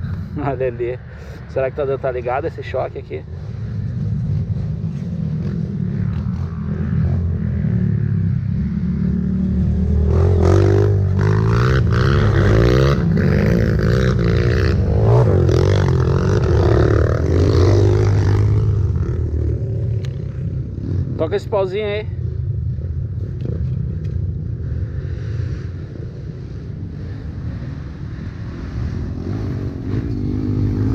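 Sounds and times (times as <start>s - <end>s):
motorcycle engine revving: 2.5s - 30.9s.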